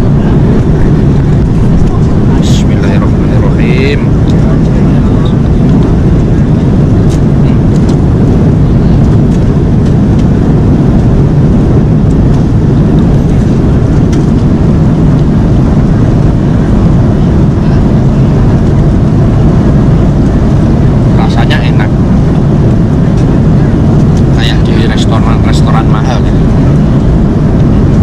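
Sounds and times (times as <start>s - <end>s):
jet airliner cabin roar: 0.0s - 28.0s.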